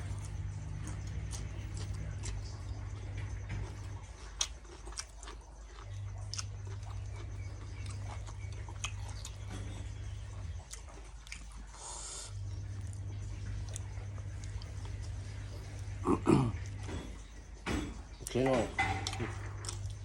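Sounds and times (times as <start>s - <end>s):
person chewing food: 0.0s - 18.4s, 19.0s - 20.0s
low background hum: 0.0s - 20.0s.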